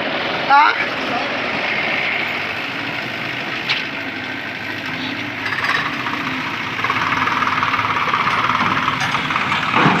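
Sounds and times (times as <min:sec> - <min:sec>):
tractor engine knocking: 0:01.5 - 0:10.0.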